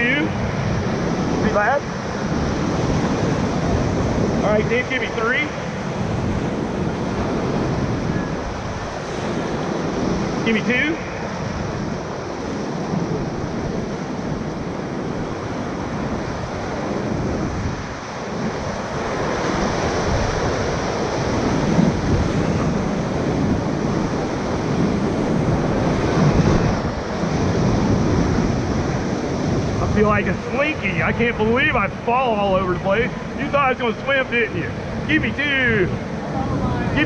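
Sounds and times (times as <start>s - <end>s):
whitewater rapids rushing: 0.0s - 37.0s.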